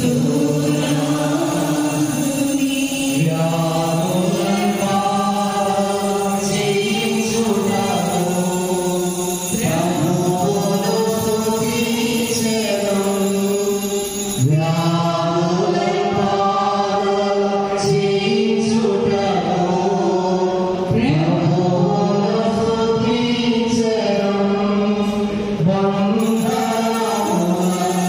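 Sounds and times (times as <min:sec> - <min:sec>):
group singing a hymn: 0:00.0 - 0:28.0.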